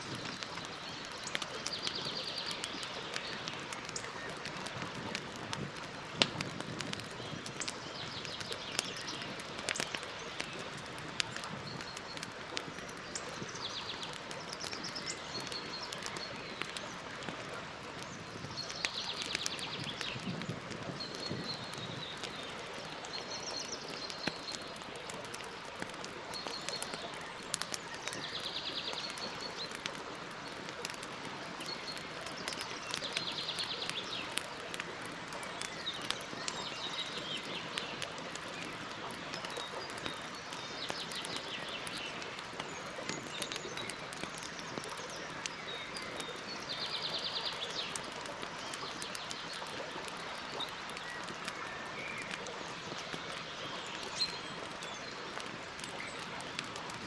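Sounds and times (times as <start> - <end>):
campfire crackling: 0.0 - 57.0
birds chirping: 6.8 - 17.4, 18.0 - 56.2.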